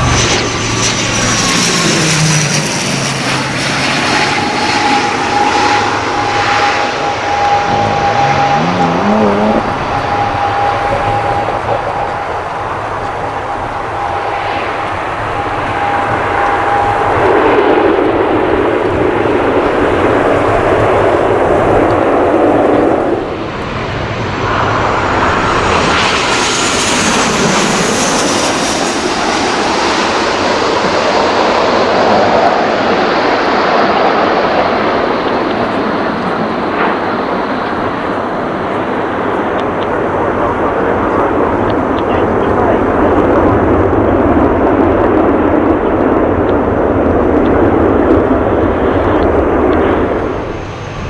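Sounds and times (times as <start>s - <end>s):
jet airliner passing overhead: 0.0s - 51.0s
turboprop airliner passing: 0.0s - 51.0s.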